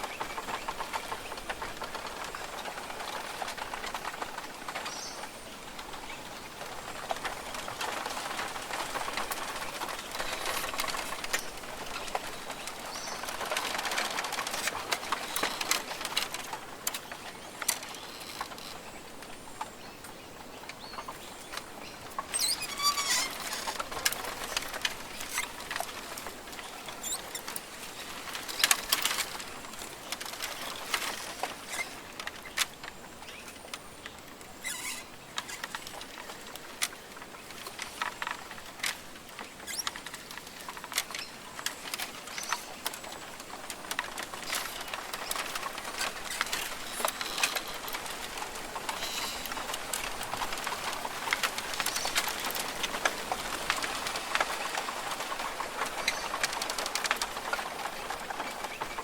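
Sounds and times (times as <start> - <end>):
sharp ticks and pattering: 0.0 - 59.0.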